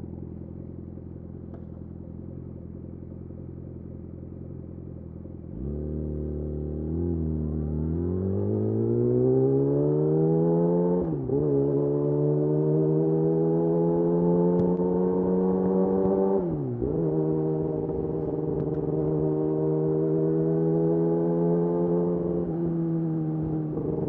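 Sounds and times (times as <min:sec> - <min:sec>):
motorcycle engine accelerating: 0:00.1 - 0:24.0.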